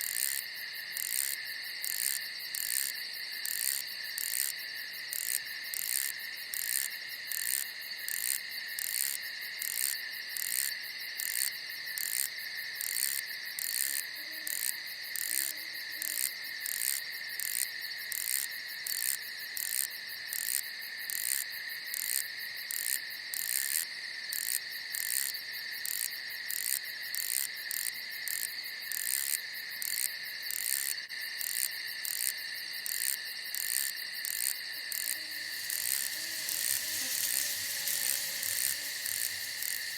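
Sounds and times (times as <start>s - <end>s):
insects chirring trill: 0.0s - 39.9s
pulsing insect chirp: 0.0s - 39.9s.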